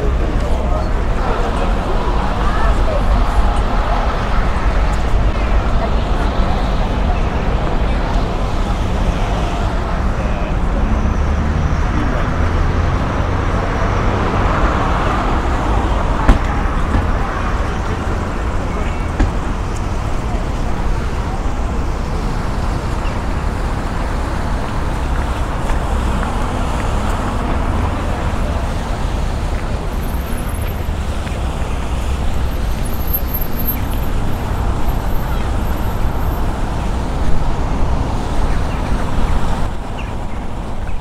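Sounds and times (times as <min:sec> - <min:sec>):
road traffic passing: 0:00.0 - 0:41.0.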